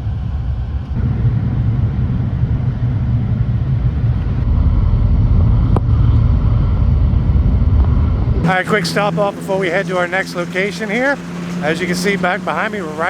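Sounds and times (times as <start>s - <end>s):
car engine rumble: 0.0s - 13.0s
road noise: 0.0s - 13.0s.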